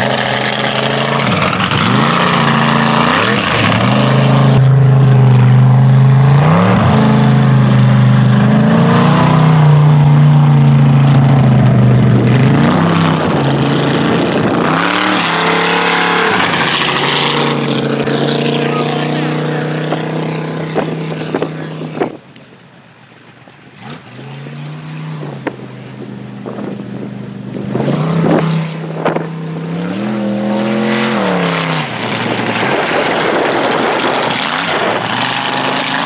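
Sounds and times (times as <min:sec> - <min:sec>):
truck engine revving: 0:00.0 - 0:22.2, 0:23.6 - 0:36.0.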